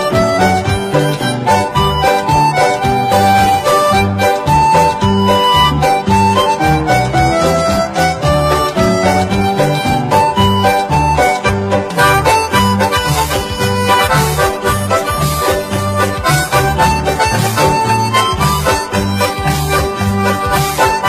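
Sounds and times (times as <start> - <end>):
instrumental music with reedy melody: 0.0 - 21.0.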